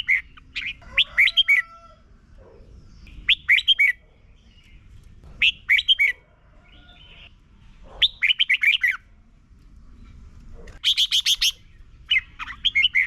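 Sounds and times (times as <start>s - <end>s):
bulbul singing: 0.0s - 1.6s, 2.7s - 7.4s, 8.0s - 9.2s, 9.9s - 13.0s.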